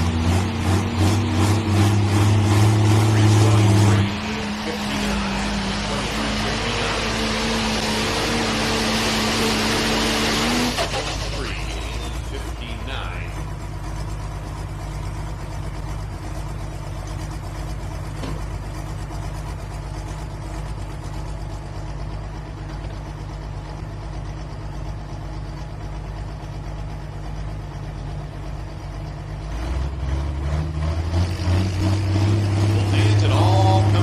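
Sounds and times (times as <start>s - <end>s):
deep loud engine running: 0.0s - 34.0s
engine idling: 0.0s - 34.0s.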